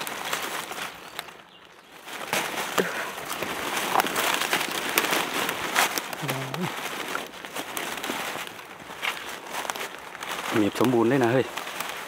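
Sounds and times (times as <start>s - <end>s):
dry leaves and twigs rustling: 0.0s - 12.0s.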